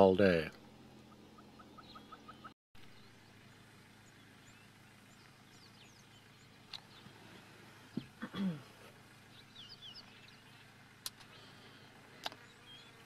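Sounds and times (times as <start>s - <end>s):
faint high bird chirps: 1.0s - 8.2s, 9.2s - 13.0s.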